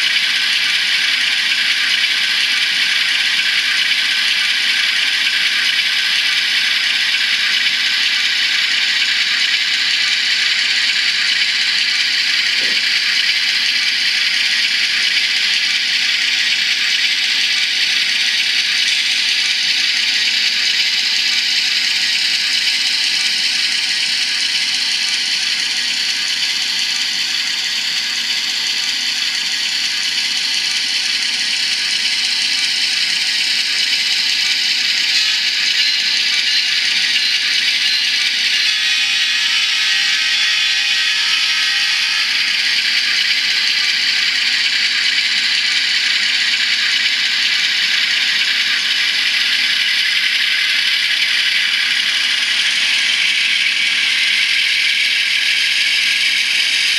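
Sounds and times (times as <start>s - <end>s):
diesel engine sound through small speaker: 0.0s - 56.9s.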